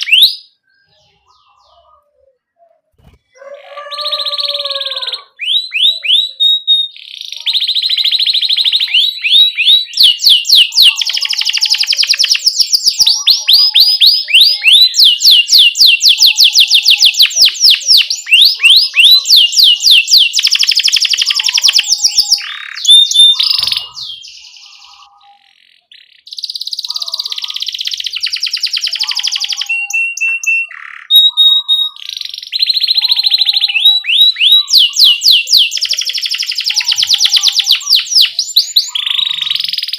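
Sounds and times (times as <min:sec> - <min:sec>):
canary chirps: 0:00.0 - 0:39.9
canary singing trills: 0:00.0 - 0:39.9.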